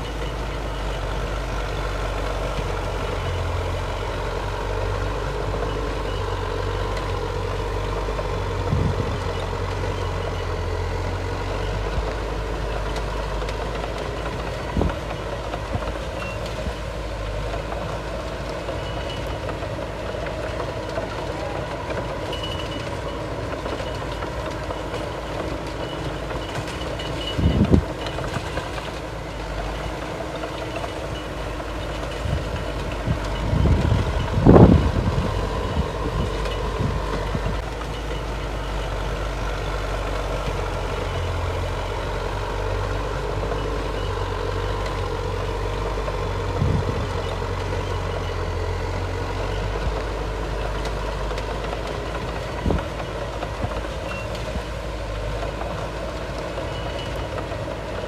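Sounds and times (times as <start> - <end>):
heavy diesel machinery running: 0.0 - 58.0
reversing beeper: 0.0 - 58.0.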